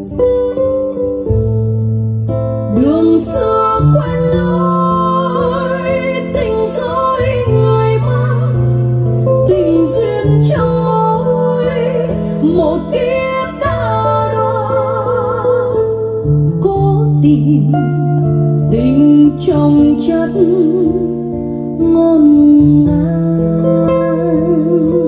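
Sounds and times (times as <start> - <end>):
slow ballad with acoustic guitar: 0.0 - 25.0.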